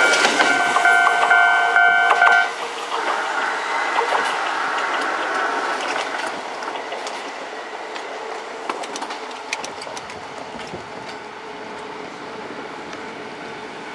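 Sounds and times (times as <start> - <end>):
wheels clicking over rail joints: 0.0 - 12.0
electric train passing: 0.0 - 13.9.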